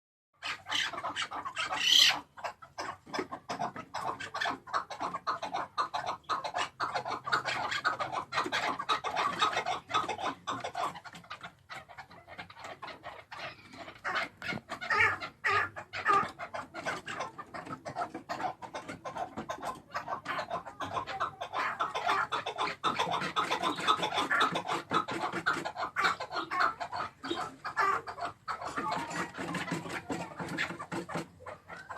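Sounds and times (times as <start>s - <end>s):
partridge clucking: 2.5s - 31.9s.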